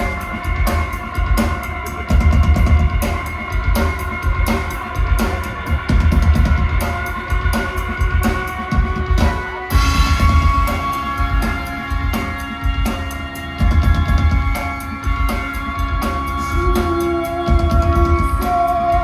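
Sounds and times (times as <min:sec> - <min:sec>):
heavy bass drum hits: 0:00.0 - 0:16.9
live rock band playing: 0:00.0 - 0:19.0.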